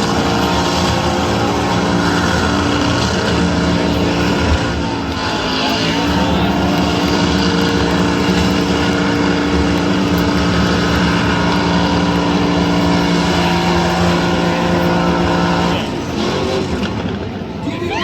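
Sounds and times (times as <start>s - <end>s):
engine at high revs: 0.0s - 18.0s.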